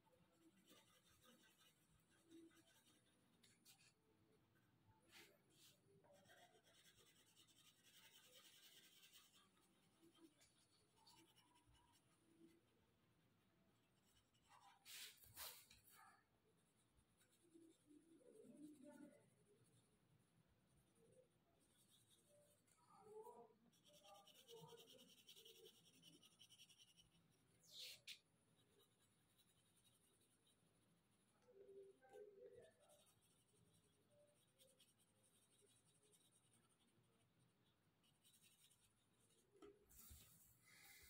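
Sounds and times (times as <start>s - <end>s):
pencil scratching on paper: 0.1s - 4.0s, 5.1s - 12.8s, 13.7s - 19.9s, 20.8s - 41.0s.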